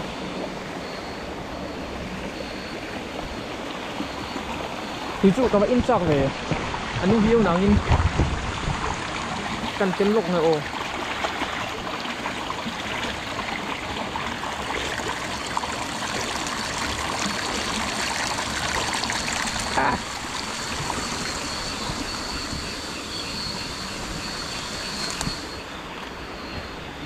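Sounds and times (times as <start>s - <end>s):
running water: 0.0s - 27.0s
thin high whine: 0.0s - 27.0s.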